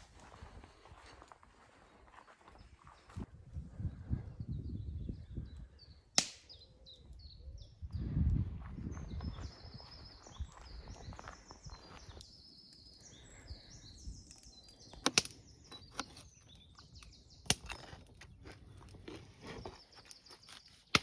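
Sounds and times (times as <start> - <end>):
birds singing: 1.6 - 21.0.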